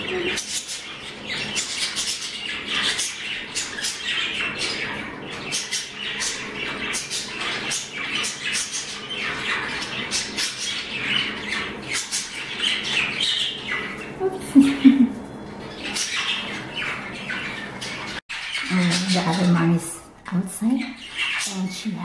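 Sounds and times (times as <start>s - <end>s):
budgerigars chirping and squawking: 0.0s - 22.0s.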